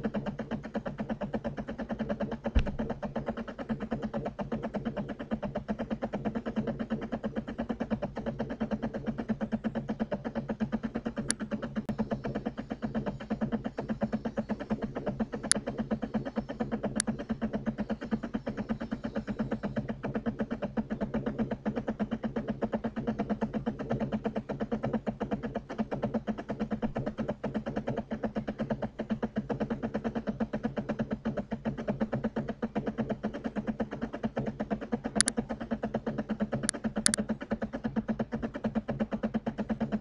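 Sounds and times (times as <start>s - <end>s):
pulsing buzzing hum: 0.0s - 40.0s.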